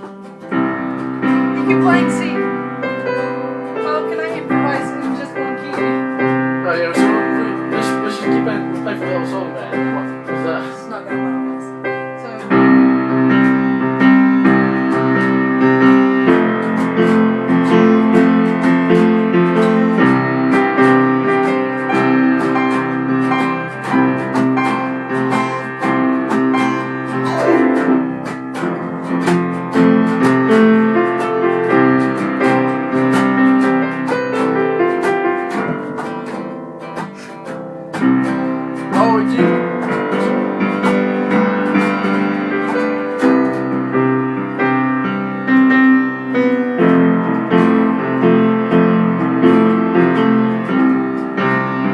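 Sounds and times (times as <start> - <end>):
guitar playing: 0.0 - 51.9
keyboard playing: 0.0 - 51.9.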